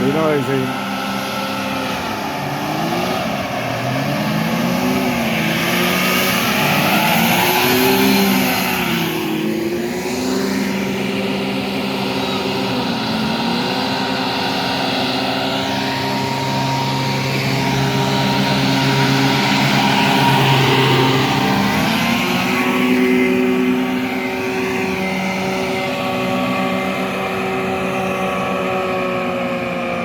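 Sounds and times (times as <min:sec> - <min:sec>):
hovercraft engines passing: 0:00.0 - 0:30.0.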